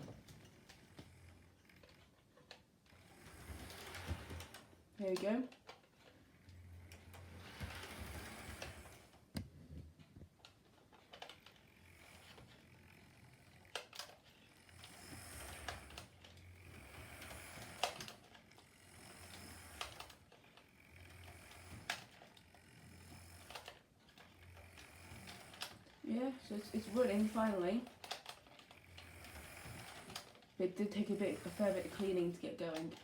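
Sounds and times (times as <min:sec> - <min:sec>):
model train motor whir: 0:00.0 - 0:09.4, 0:10.4 - 0:33.0.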